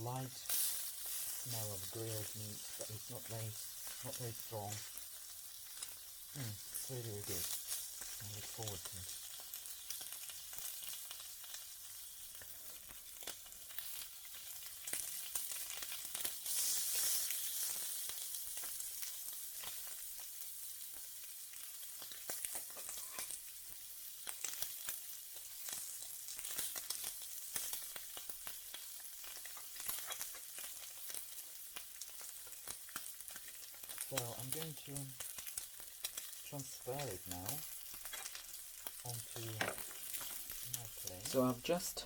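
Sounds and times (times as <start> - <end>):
steak sizzling in a frying pan: 0.0 - 42.0.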